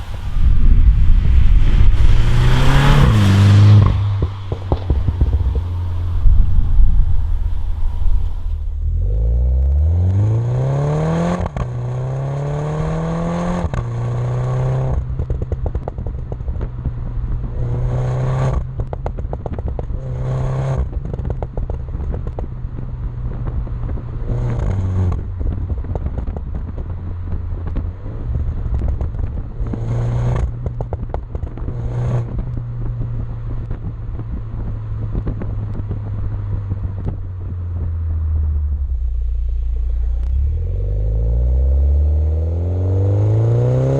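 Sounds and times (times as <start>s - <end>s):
car engine revving: 0.0s - 43.9s
exhaust crackling and popping: 0.0s - 43.9s.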